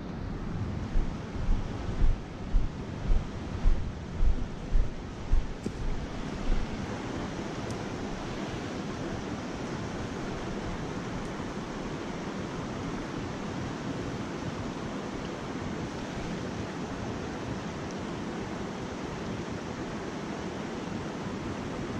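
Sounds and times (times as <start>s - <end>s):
river water rushing: 0.5s - 21.9s.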